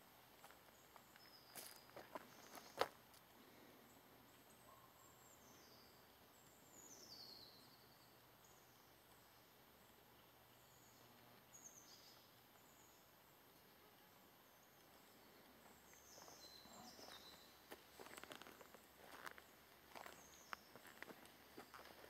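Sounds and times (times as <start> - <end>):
faint high bird calls: 0.8 - 2.9, 3.8 - 22.0.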